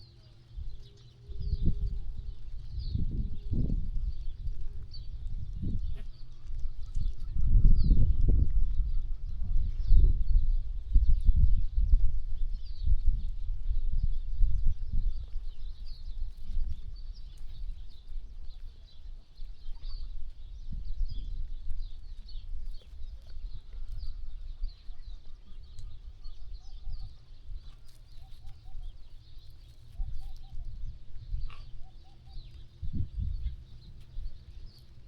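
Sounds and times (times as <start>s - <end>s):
low gusty rumble: 0.0s - 27.8s, 30.0s - 35.0s
small birds chirping: 0.0s - 35.0s.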